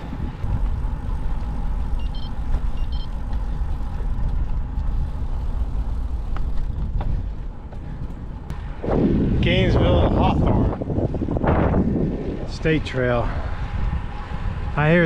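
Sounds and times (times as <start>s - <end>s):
car traffic: 0.0s - 15.0s
wind and road noise: 0.0s - 15.0s.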